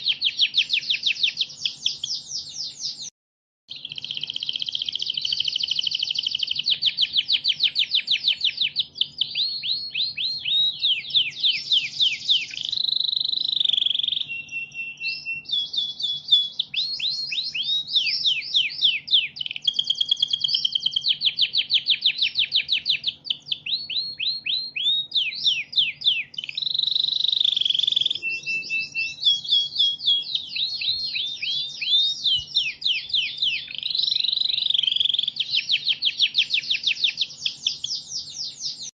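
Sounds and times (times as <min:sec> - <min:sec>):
canary singing: 0:00.0 - 0:03.1, 0:03.7 - 0:38.9.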